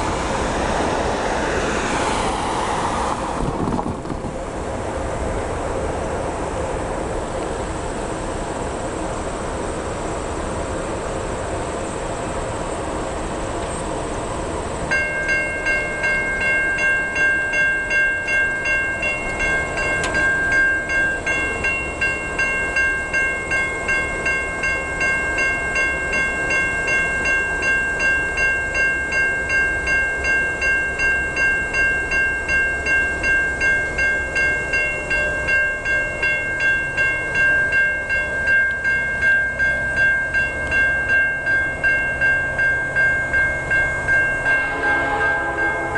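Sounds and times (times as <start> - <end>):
railroad crossing bell ringing: 6.8 - 45.9.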